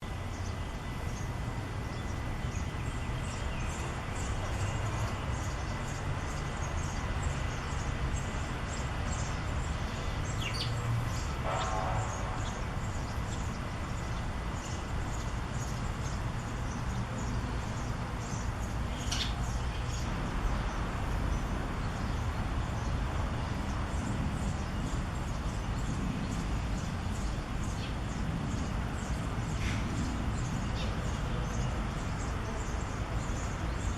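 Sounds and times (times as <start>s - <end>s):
steady low rumble: 0.0s - 33.9s
nestlings begging chirps: 0.1s - 33.9s.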